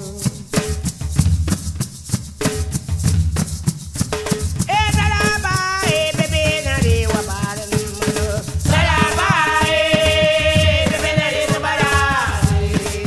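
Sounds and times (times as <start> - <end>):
shaker-like percussion: 0.0 - 13.0.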